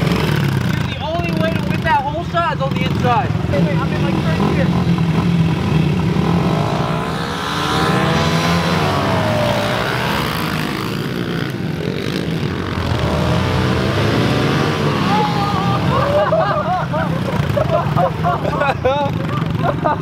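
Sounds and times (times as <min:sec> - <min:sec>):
small motorbike engines revving: 0:00.0 - 0:20.0.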